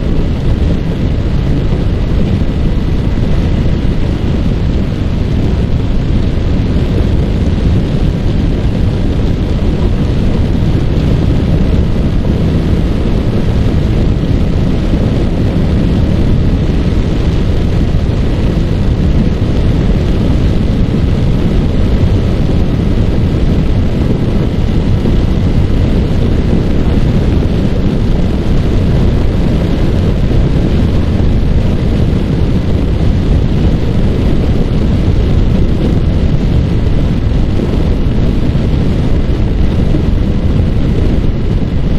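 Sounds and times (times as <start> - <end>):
motorcycle engine cruising: 0.0 - 41.9
wind rushing over microphone: 0.0 - 41.9.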